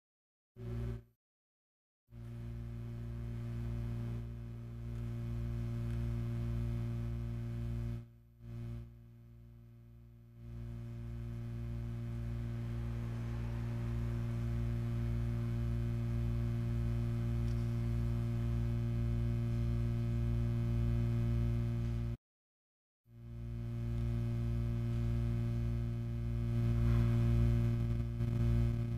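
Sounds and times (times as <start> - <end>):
deep electric hum: 0.6 - 1.1, 2.1 - 22.2, 23.1 - 28.9.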